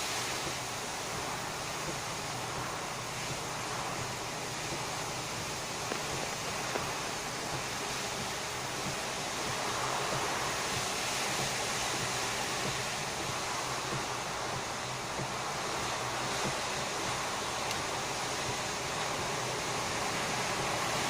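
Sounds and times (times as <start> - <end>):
storm surf: 0.0 - 21.0.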